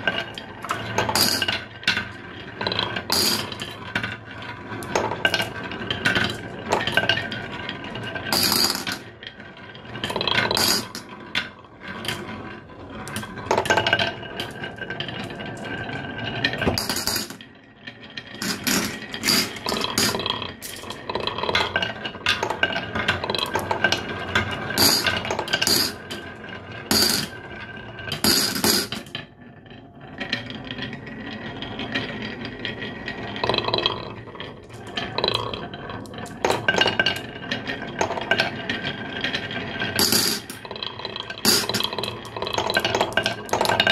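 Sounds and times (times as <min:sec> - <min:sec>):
marbles clinking and clicking: 0:00.0 - 0:09.2, 0:09.9 - 0:12.3, 0:13.1 - 0:17.6, 0:18.2 - 0:26.3, 0:26.9 - 0:27.4, 0:33.4 - 0:43.9
marbles rumbling down wooden grooves: 0:00.0 - 0:43.9.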